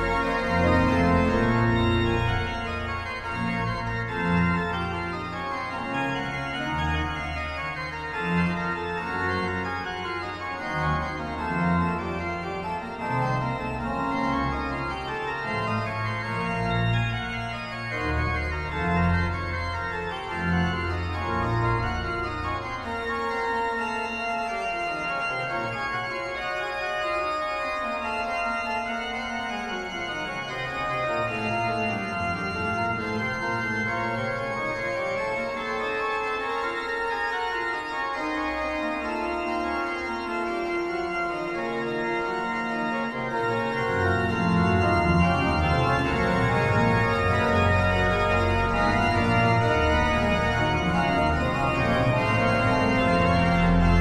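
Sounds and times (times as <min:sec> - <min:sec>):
organ music: 0:00.0 - 0:54.0.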